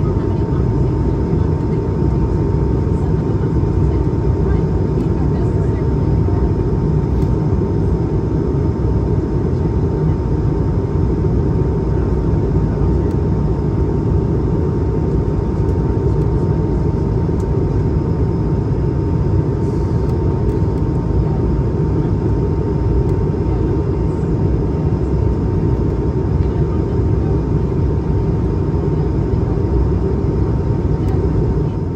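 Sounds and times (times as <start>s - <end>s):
jet engine roar in cabin: 0.0s - 31.9s.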